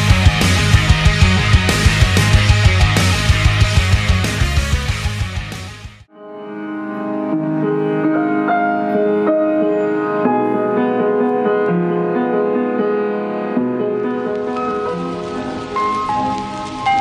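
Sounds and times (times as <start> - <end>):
piano melody over chords: 0.0 - 17.0.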